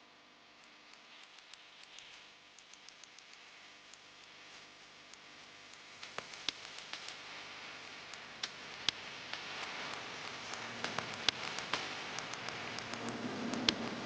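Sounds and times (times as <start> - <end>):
light clicks and taps: 0.6 - 7.4, 8.1 - 14.0
faint hiss: 0.6 - 14.0.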